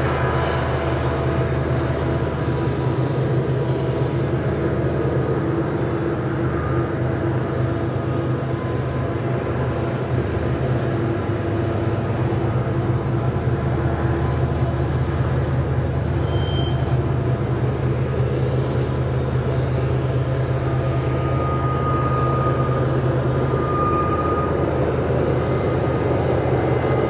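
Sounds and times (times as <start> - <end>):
high-pitched engine whine: 0.0 - 27.0
locomotive engine drone: 0.0 - 27.0.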